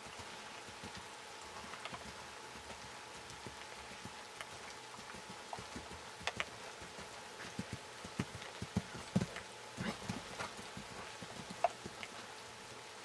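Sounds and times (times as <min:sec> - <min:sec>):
hoofbeats on sand: 0:00.0 - 0:12.2
steady hiss: 0:00.0 - 0:13.0.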